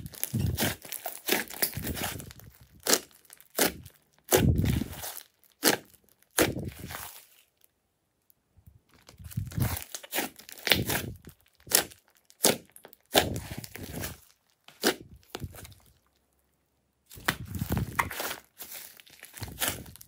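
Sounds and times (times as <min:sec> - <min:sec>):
slime squelching: 0:00.0 - 0:07.6, 0:08.9 - 0:16.3, 0:17.1 - 0:20.0.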